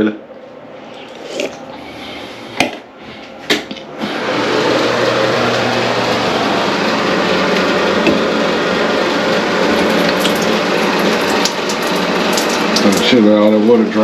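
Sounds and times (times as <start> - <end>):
exhaust fan whooshing: 0.0 - 14.0.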